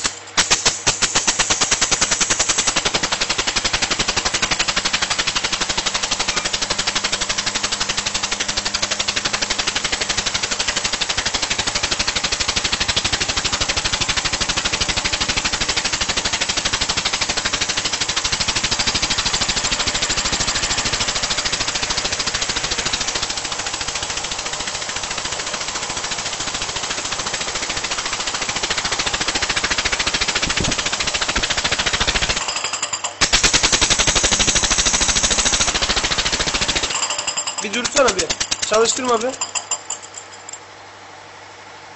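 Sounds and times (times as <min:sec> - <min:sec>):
air hiss: 0:00.0 - 0:32.4, 0:33.2 - 0:36.9.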